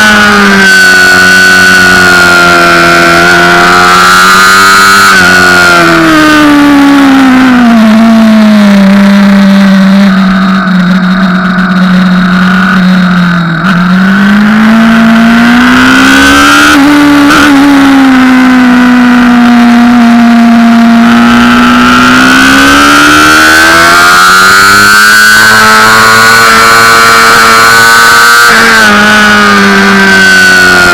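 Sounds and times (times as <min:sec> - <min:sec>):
motorcycle engine at speed: 0:00.0 - 0:30.9.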